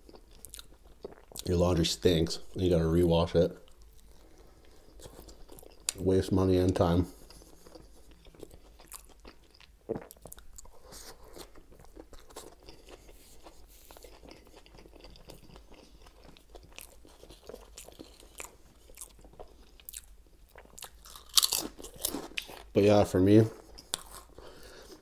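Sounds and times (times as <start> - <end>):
chewing sandwich: 0.0 - 1.6, 3.6 - 6.2, 7.1 - 22.8, 23.5 - 25.0.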